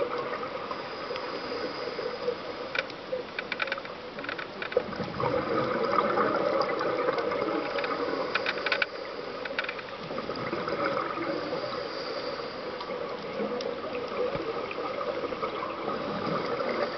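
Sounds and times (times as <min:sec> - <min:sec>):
underwater scuba breathing bubbles: 0:00.0 - 0:02.9, 0:04.7 - 0:16.9.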